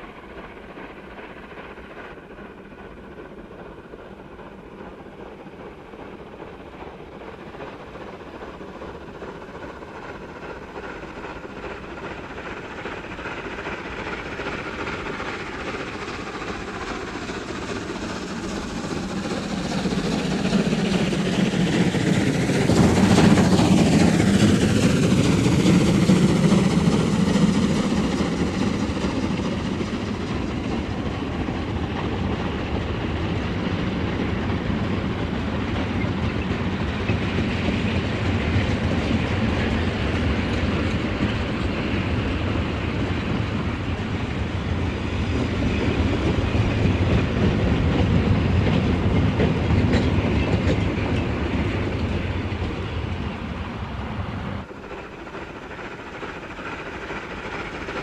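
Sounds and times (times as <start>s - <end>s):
steam locomotive passing: 0.0s - 58.0s
train wagons rolling on rails: 0.0s - 58.0s.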